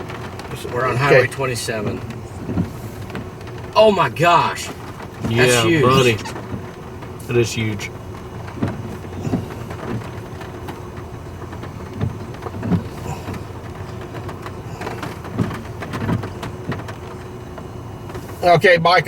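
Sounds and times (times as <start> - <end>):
low bumps: 0.0 - 19.0
rain ticking on vehicle: 0.0 - 19.0
steady running noise: 0.0 - 19.0.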